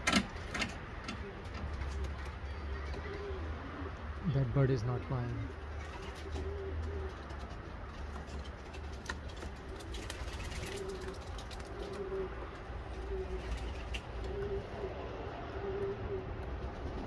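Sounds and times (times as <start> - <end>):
pigeons cooing: 0.1 - 17.0.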